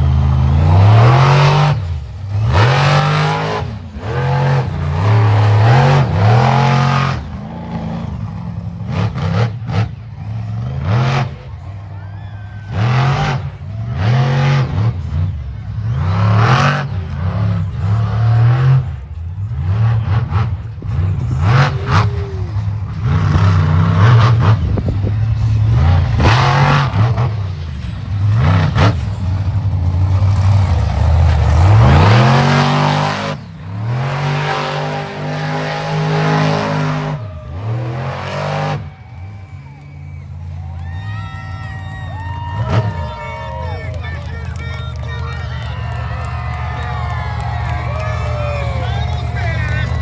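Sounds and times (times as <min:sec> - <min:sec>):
monster truck engine revving: 0:00.0 - 0:50.0.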